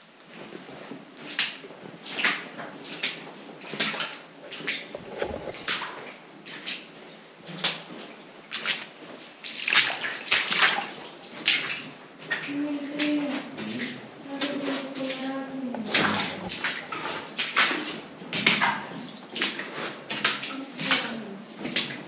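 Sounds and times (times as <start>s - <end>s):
footsteps splashing through water: 0.3s - 6.9s, 7.5s - 22.0s.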